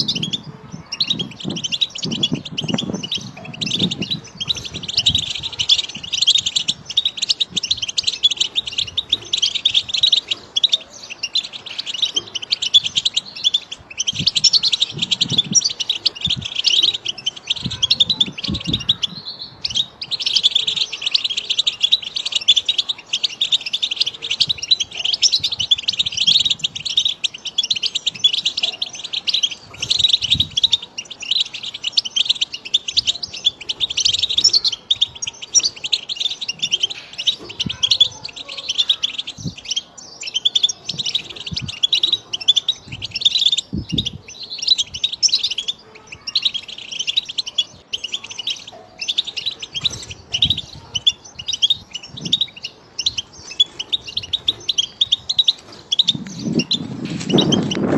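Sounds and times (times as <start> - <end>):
bird twittering song: 0.0 - 57.9.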